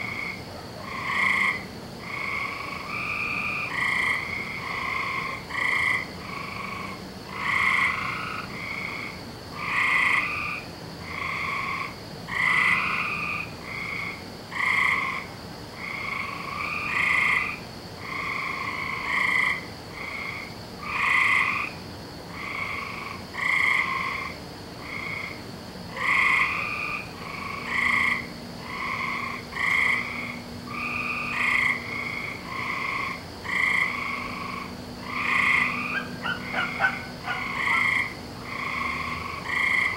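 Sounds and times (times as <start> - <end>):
faint high hum: 0.0 - 39.9
frogs croaking: 0.0 - 39.9.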